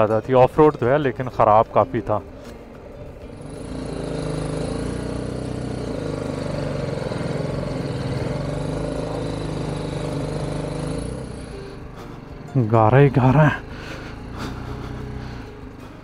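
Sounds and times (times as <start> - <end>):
motorcycle engine running: 2.3 - 16.0.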